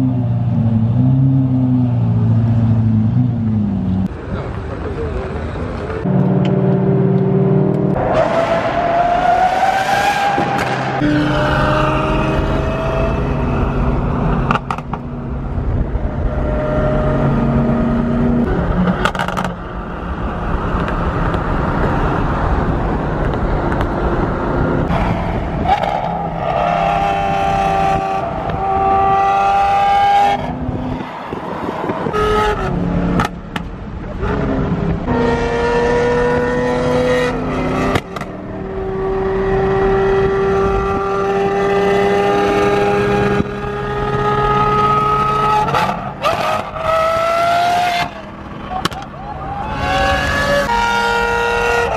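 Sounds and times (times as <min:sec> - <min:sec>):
car engine accelerating: 0:00.0 - 0:51.9.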